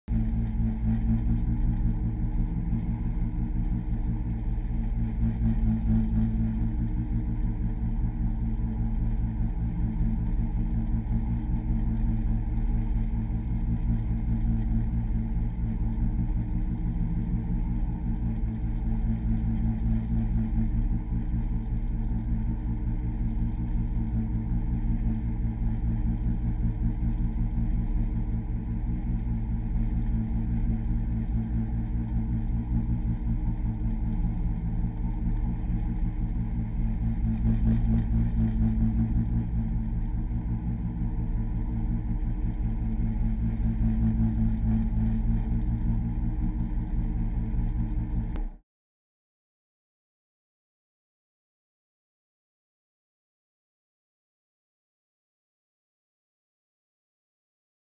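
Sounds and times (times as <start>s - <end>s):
water rushing along hull: 0.1s - 48.4s
boat engine droning: 0.1s - 48.6s.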